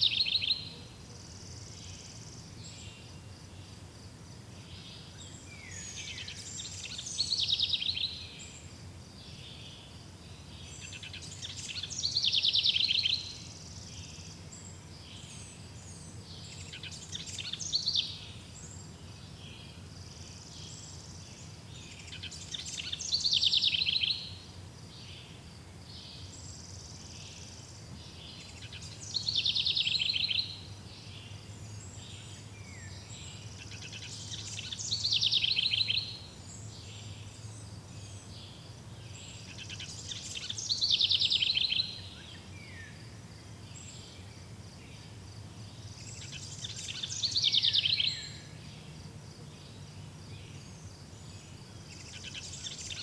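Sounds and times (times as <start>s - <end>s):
songbird trilled song: 0.0s - 3.8s, 4.6s - 53.0s
faint insect chirring: 0.0s - 53.0s.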